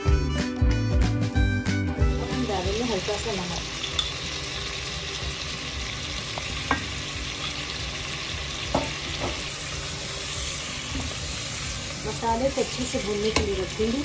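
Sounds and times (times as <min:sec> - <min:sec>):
masala sizzling in oil: 0:02.0 - 0:14.0.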